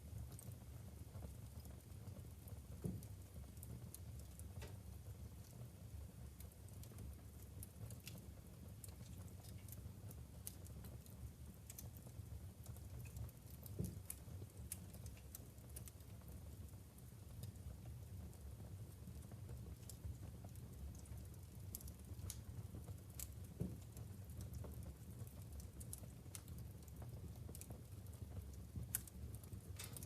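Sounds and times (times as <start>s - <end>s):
burning logs crackling: 0.0s - 30.0s.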